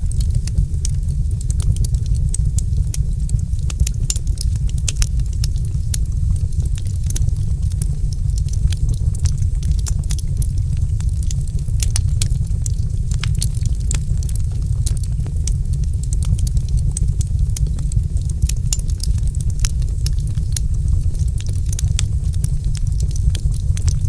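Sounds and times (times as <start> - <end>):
low rumble: 0.0 - 24.0
wood fire crackling: 0.0 - 24.0.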